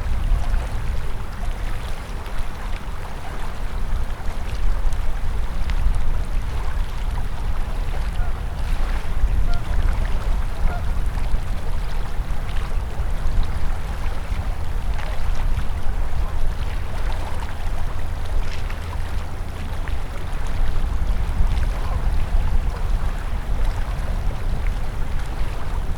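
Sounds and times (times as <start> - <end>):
low water rumble: 0.0 - 25.9
river water rushing: 0.0 - 25.9
water splashing and gurgling: 0.0 - 25.9.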